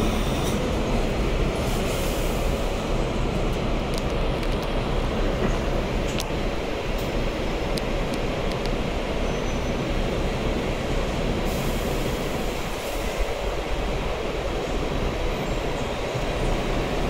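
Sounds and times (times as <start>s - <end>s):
low rumble inside tram: 0.0s - 17.0s.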